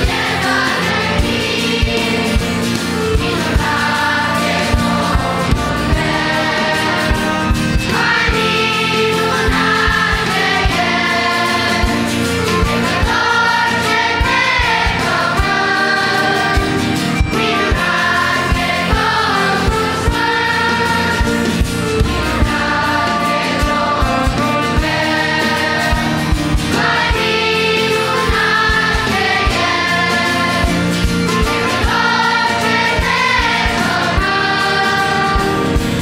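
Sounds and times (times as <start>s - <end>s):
accordion: 0.0s - 36.0s
children's choir singing: 0.0s - 36.0s
drums keeping a beat: 0.0s - 36.0s
piano: 0.0s - 36.0s.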